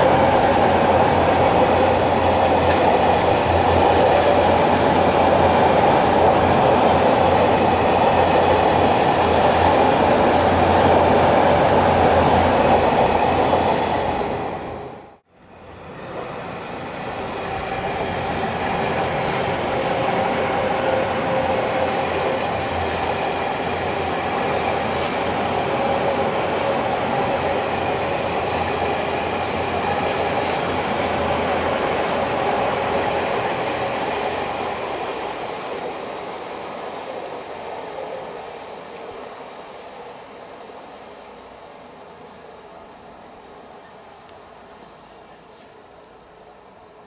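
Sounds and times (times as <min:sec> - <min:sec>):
electric train running on rails: 0:00.0 - 0:47.0.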